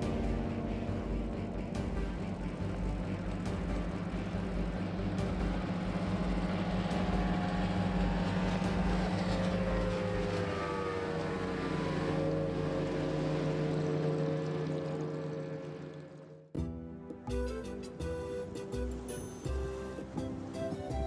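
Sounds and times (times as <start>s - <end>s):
motorboat engine passing: 0.0s - 16.6s, 17.3s - 21.0s.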